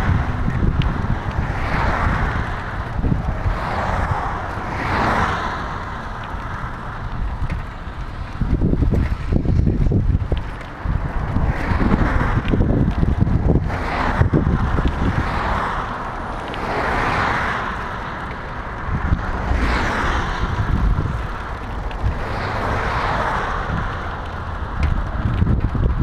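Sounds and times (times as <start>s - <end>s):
tyre noise of passing cars: 0.0s - 26.0s
wind buffeting microphone: 0.0s - 26.0s.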